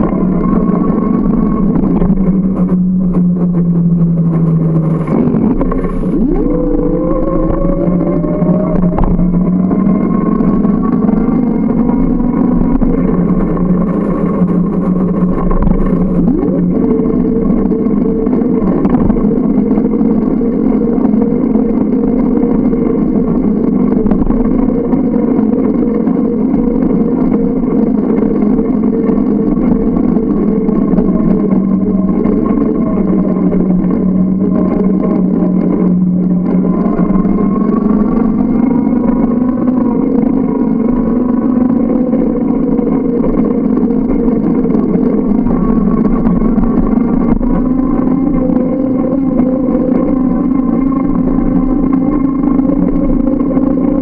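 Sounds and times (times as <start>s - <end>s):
motor running: 0.0s - 54.0s.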